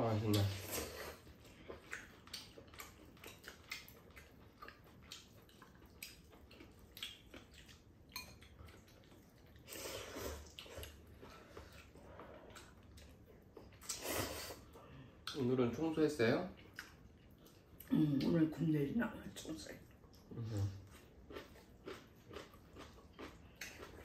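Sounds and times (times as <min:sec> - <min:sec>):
noodles slurped and chewed: 0:00.0 - 0:15.4, 0:19.7 - 0:24.0.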